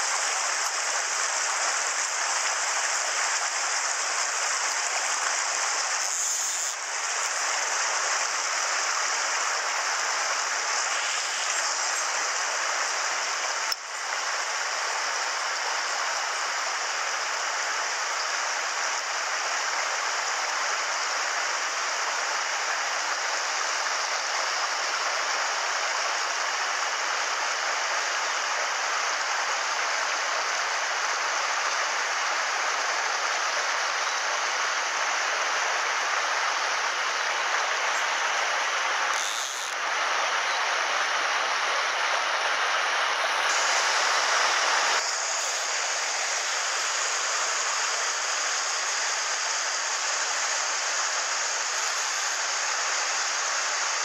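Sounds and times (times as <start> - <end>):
stream rushing over boulders: 0.0 - 54.0.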